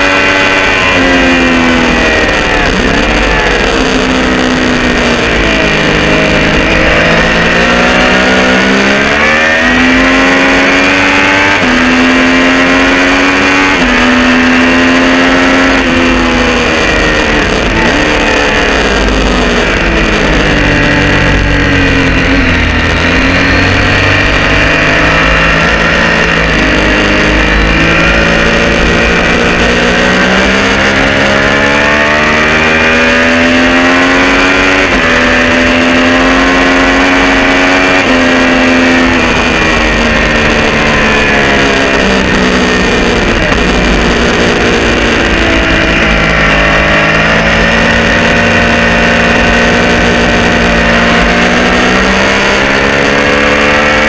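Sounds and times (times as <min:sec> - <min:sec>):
gear change pitch steps: 0:00.0 - 0:54.0
motorcycle engine at high revs: 0:00.0 - 0:54.0.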